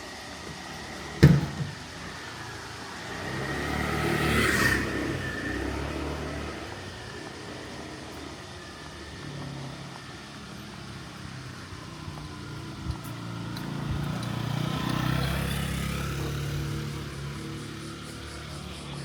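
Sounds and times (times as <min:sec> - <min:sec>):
vehicle engine passing: 0:00.1 - 0:19.0.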